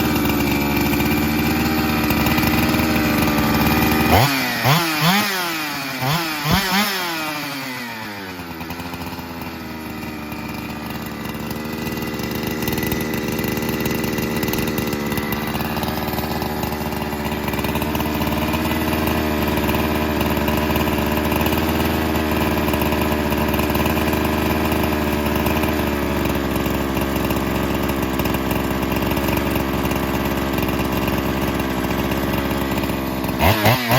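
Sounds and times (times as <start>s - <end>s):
chainsaw revving and idling: 0.0s - 33.9s.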